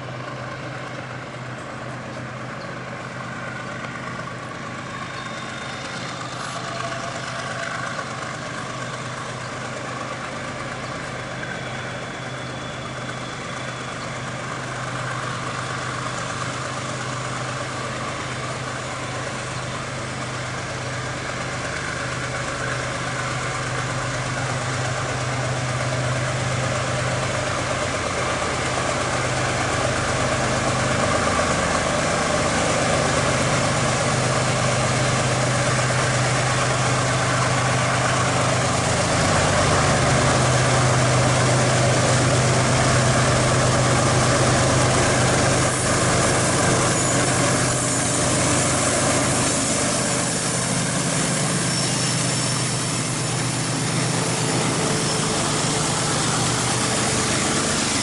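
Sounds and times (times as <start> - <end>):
diesel locomotive engine humming: 0.0 - 58.0.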